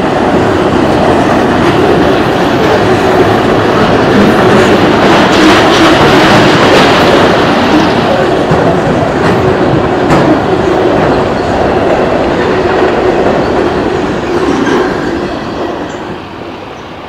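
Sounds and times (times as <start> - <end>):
freight train wheels clattering on rails: 0.0 - 16.9.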